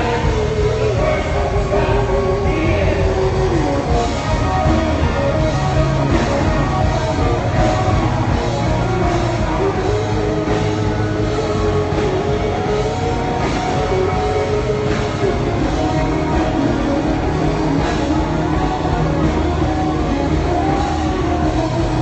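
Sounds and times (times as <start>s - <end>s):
live worship band playing: 0.0s - 22.0s.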